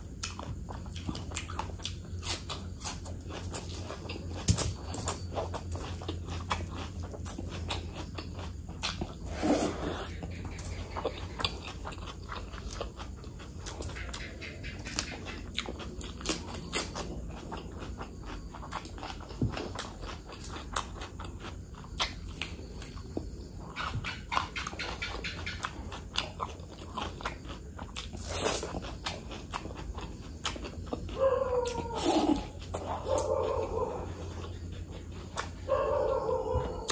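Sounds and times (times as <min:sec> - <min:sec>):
wet chewing and lip smacking: 0:00.0 - 0:36.9.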